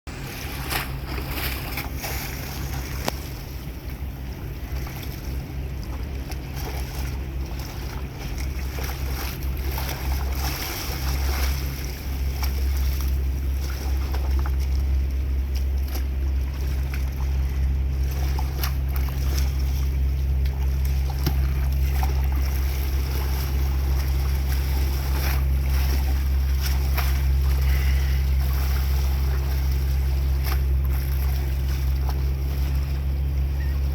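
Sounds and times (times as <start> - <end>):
ferry engine humming: 0.1 - 33.9
water noise: 0.1 - 33.9.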